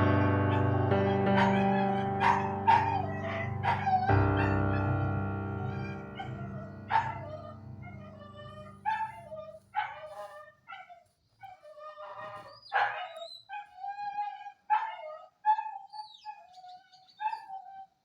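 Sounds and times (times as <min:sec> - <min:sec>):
dog whining and yipping: 0:00.5 - 0:04.9, 0:05.8 - 0:18.0.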